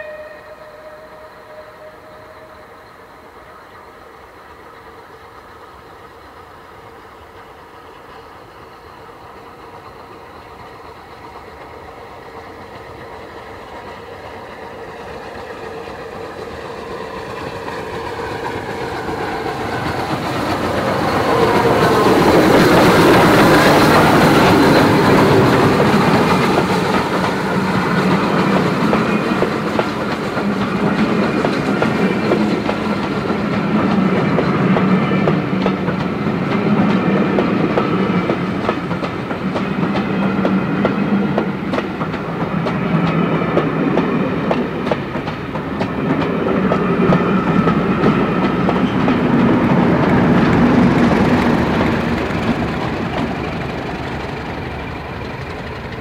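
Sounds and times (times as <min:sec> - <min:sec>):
steam locomotive working hard: 0:00.0 - 0:56.0
train wheels clickety-clack: 0:04.4 - 0:56.0.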